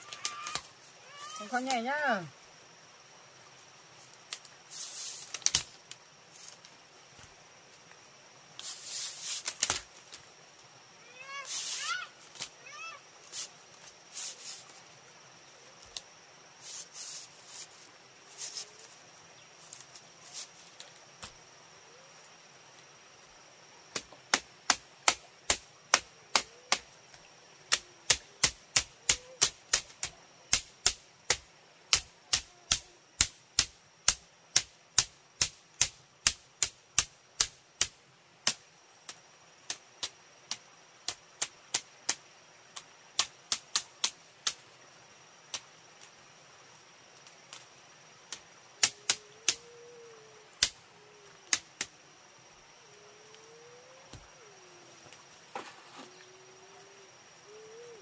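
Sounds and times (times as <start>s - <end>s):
high insect buzz: 0.0s - 58.0s.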